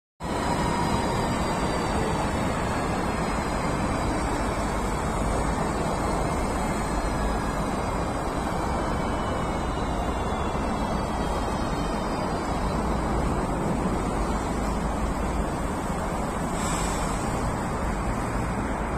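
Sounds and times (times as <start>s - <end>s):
faint high whine: 0.2s - 18.9s
train wheels rumbling on rails: 0.2s - 18.9s.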